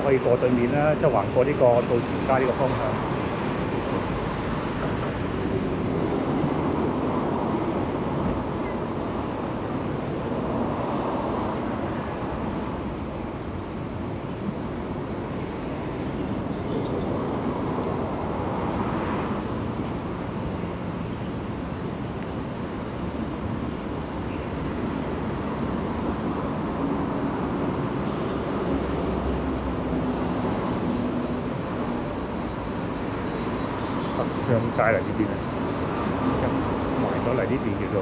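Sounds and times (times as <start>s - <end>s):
road traffic roar: 0.0s - 38.0s.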